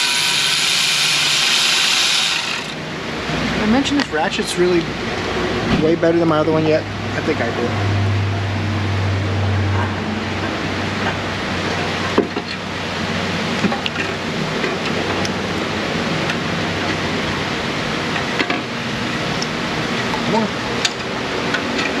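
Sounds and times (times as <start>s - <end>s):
low hum: 2.5s - 22.0s.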